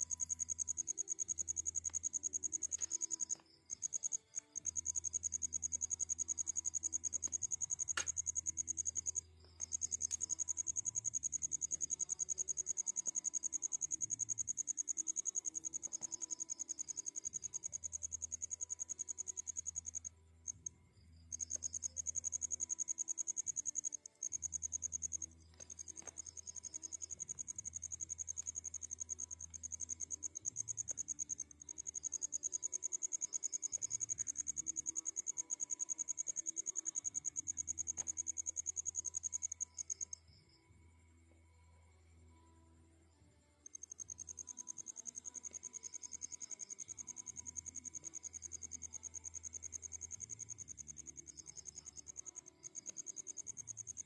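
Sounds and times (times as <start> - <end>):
cricket trilling: 0.0 - 40.6, 43.6 - 54.0.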